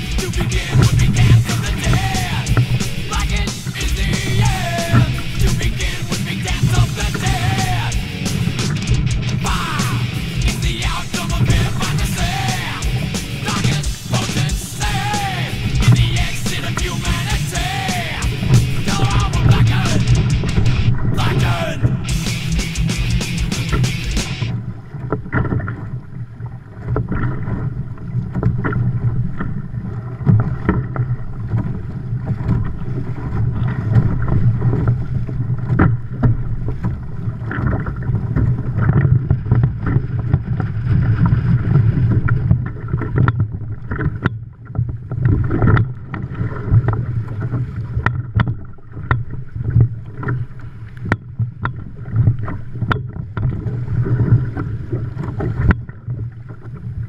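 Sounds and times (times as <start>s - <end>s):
water rushing along hull: 0.0s - 57.0s
water slapping and splashing: 0.0s - 57.0s.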